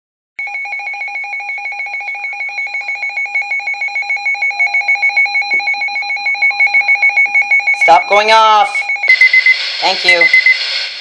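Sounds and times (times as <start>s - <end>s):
weather alert alarm trilling: 0.4s - 10.7s.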